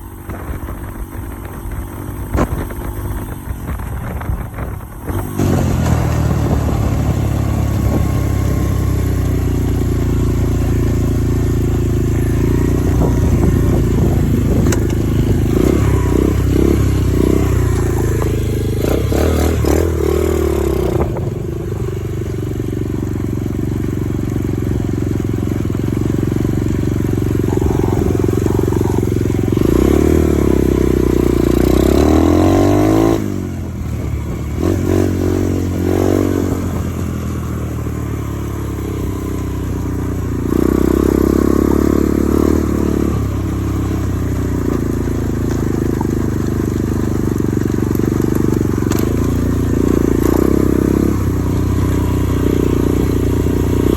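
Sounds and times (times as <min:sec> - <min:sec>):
dirt bike engine revving: 0:00.1 - 0:53.9.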